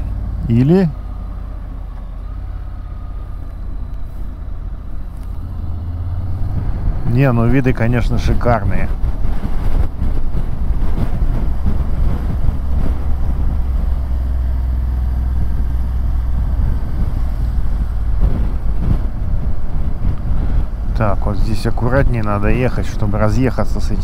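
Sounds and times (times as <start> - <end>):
motorcycle riding: 0.0 - 24.0
wind rushing over microphone: 0.0 - 24.0.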